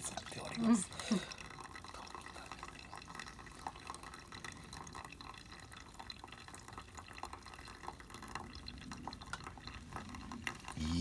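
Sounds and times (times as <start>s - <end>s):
coffee dripping: 0.0s - 11.0s.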